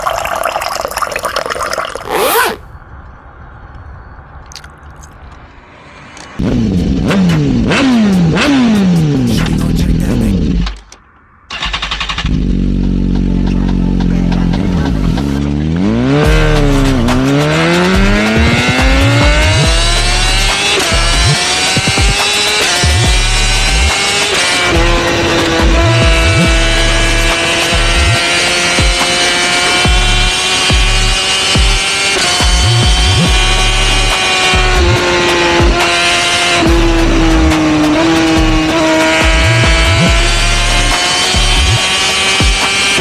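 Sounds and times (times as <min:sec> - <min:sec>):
motorcycle engine revving: 0:02.1 - 0:02.7, 0:06.4 - 0:09.5, 0:11.5 - 0:43.0.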